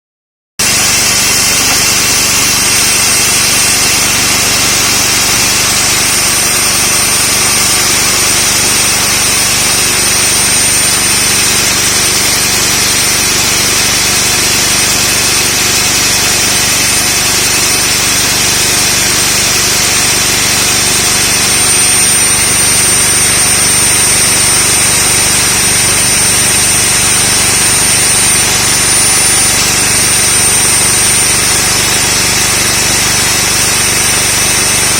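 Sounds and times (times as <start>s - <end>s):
core drill running: 0.6s - 34.9s.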